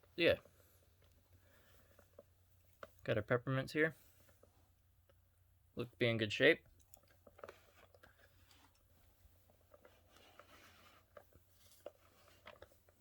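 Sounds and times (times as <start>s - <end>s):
soft rustling: 0.0s - 3.2s, 3.8s - 5.2s, 6.9s - 13.0s.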